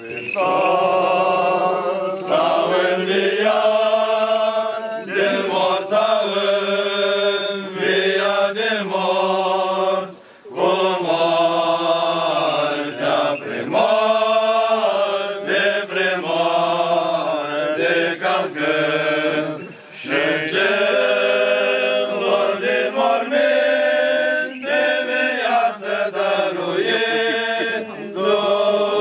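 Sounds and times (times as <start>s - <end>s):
choir singing liturgical chant: 0.0s - 29.0s.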